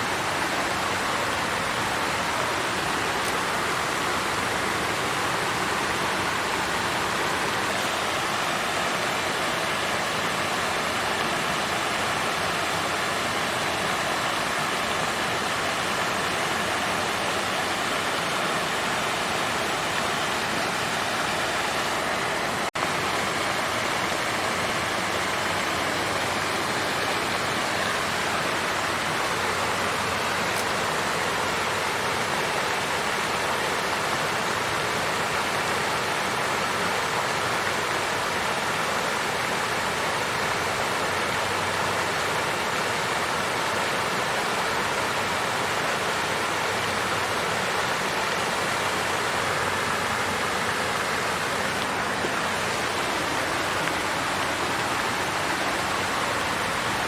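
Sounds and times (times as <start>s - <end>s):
water fountain flowing: 0.0s - 57.0s.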